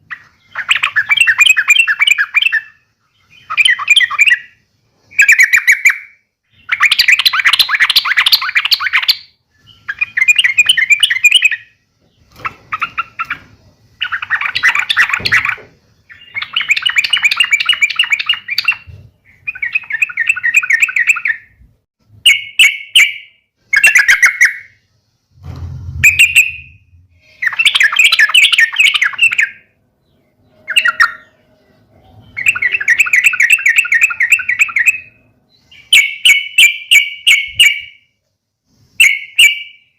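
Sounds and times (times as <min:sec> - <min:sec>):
bird chattering song: 0:00.0 - 0:21.6, 0:22.2 - 0:24.8, 0:26.0 - 0:38.0.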